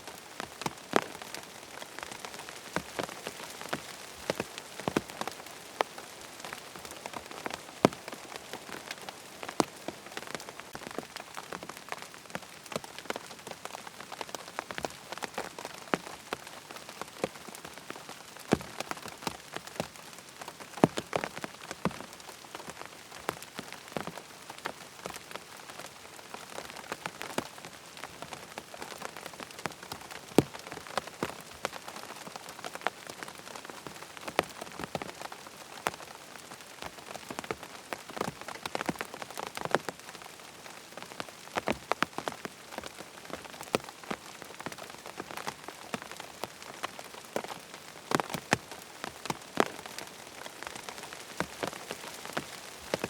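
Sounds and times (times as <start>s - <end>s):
rain hiss: 0.0s - 53.0s
raindrops tapping on tent: 0.0s - 53.0s.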